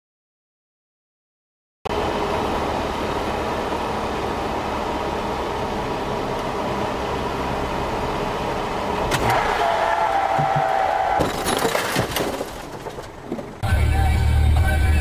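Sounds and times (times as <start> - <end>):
car road and engine noise: 1.9 - 15.0.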